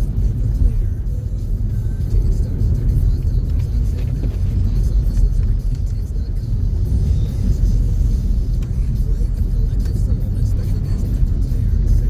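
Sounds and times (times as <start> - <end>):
vehicle rumble on snowy road: 0.0 - 12.0.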